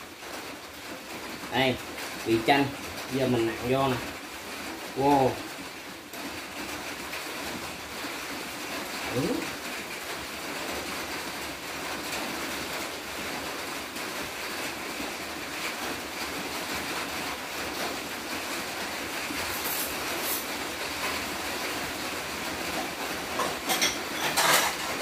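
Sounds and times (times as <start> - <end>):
rain on metal roof: 0.0 - 25.0.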